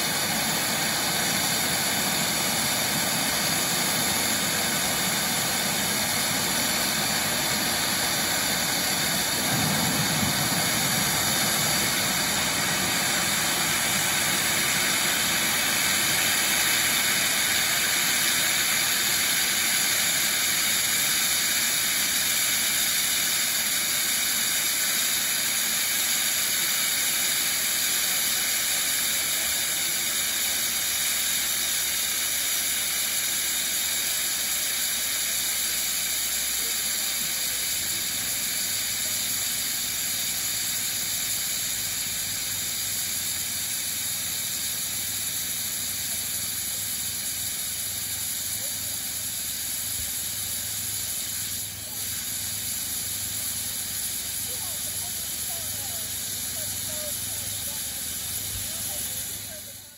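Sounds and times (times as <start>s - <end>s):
steam hissing under pressure: 0.0s - 59.9s.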